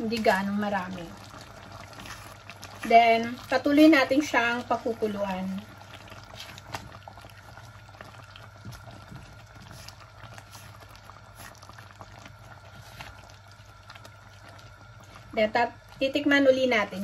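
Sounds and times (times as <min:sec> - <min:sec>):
sauce simmering and bubbling: 0:00.0 - 0:17.0.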